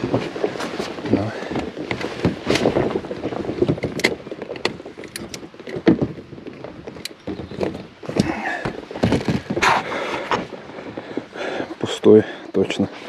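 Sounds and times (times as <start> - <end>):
knocks and clatter in boat: 0.0 - 13.0
water noise: 0.0 - 13.0.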